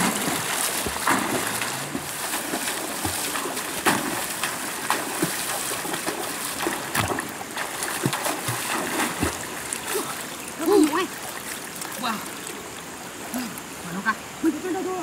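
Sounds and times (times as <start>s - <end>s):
sharp water splashes: 0.0s - 13.6s
river current rushing: 0.0s - 15.0s.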